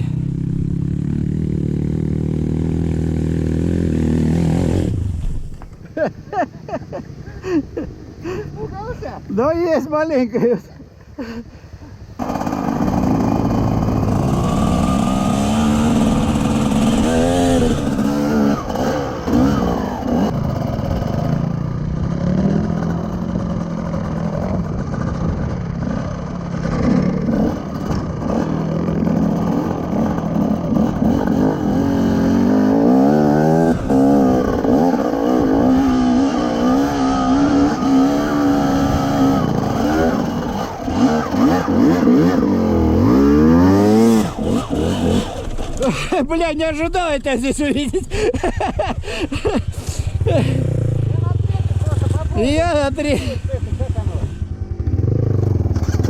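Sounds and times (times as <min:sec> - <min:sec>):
motorcycle engine revving: 0:00.0 - 0:05.9, 0:12.2 - 0:46.3, 0:47.2 - 0:56.0.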